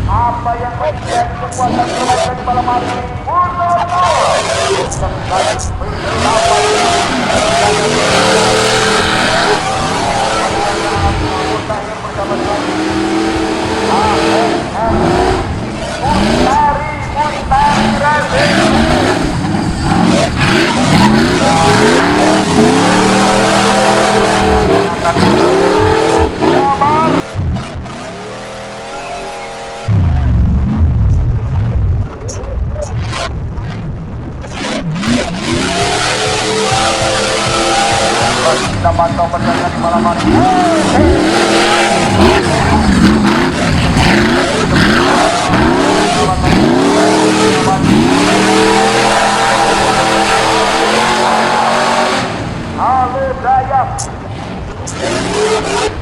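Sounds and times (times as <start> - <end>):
off-road vehicle engine revving: 0.0 - 56.0.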